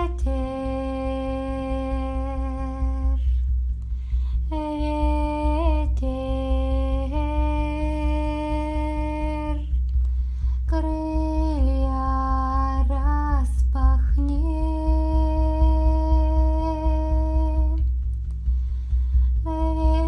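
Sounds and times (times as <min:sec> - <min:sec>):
frame drum beating: 0:00.0 - 0:20.0.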